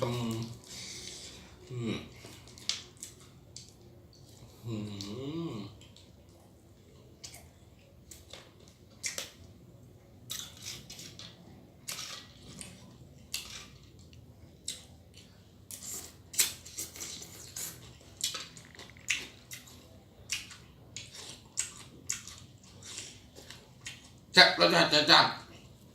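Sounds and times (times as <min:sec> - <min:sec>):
chewing and crunching: 0:00.0 - 0:09.6, 0:10.2 - 0:24.3.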